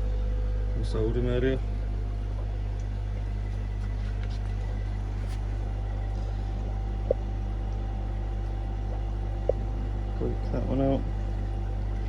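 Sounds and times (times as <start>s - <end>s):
aquarium equipment humming: 0.0s - 12.0s.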